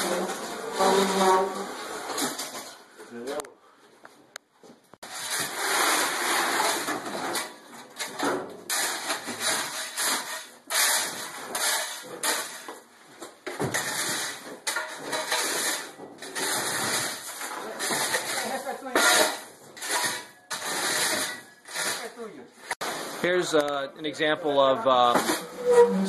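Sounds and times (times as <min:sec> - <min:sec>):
shovel scraping concrete floor: 0:00.0 - 0:02.8, 0:05.0 - 0:23.6, 0:25.1 - 0:26.0.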